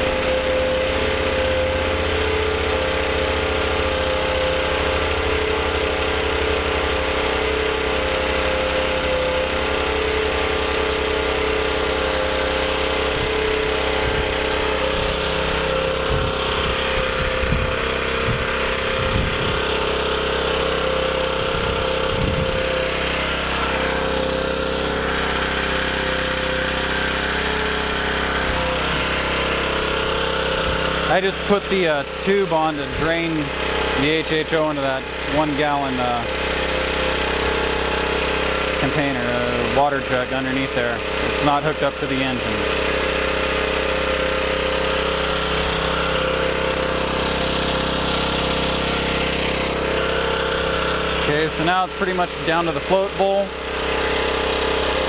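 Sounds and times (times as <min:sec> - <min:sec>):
generator engine running: 0:00.0 - 0:55.0.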